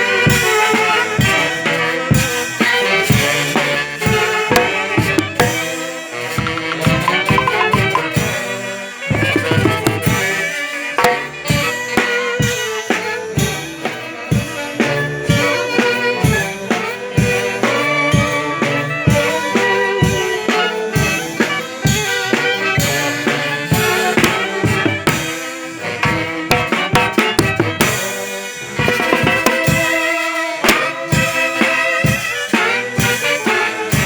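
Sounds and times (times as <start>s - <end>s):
band music with drums: 0.0s - 34.0s.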